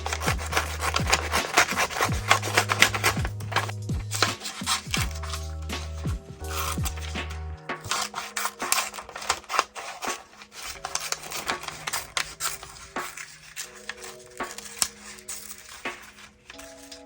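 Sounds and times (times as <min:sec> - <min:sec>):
scratchy rubbing and scraping of paper: 0:00.0 - 0:17.0
soft background music: 0:00.0 - 0:17.0.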